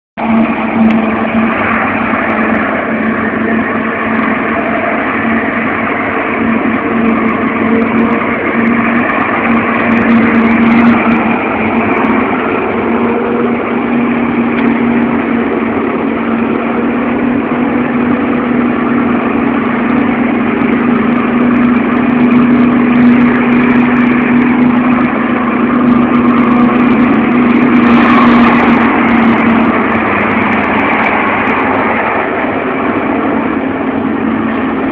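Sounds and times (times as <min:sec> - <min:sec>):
forage harvester running: 0:00.2 - 0:34.9
tractor diesel engine droning: 0:00.2 - 0:34.9.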